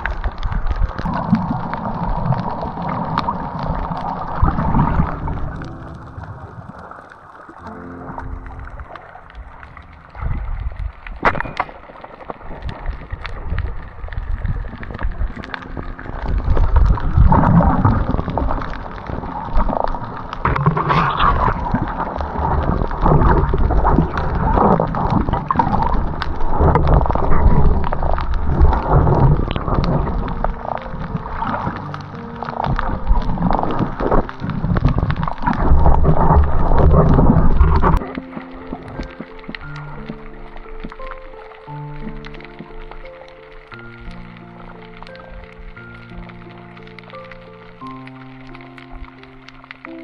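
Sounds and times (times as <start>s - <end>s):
low rumble: 0.0s - 40.9s
sea water sloshing: 0.0s - 50.0s.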